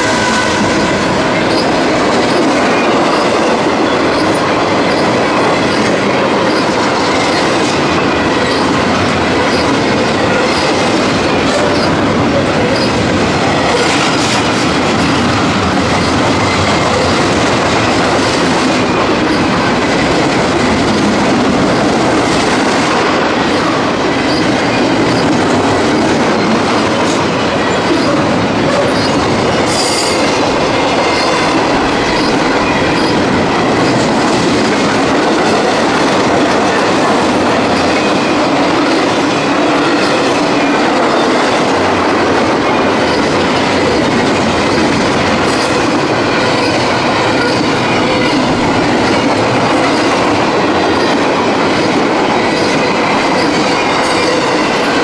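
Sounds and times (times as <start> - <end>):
freight train wheels on rail: 0.0 - 55.0
locomotives passing: 0.0 - 55.0.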